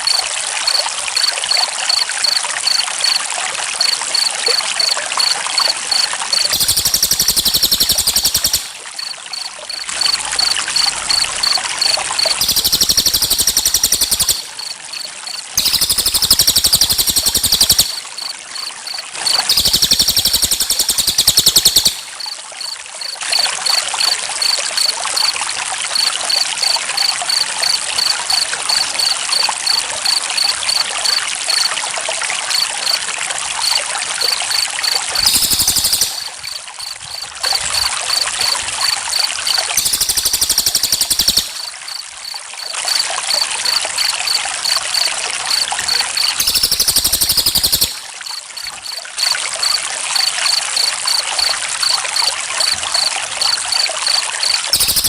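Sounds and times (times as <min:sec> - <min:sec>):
loud rapid cricket trill: 0:00.0 - 0:31.7, 0:32.5 - 0:55.0
crickets chirping: 0:00.0 - 0:31.8, 0:32.4 - 0:55.0
water trickling: 0:00.0 - 0:55.0.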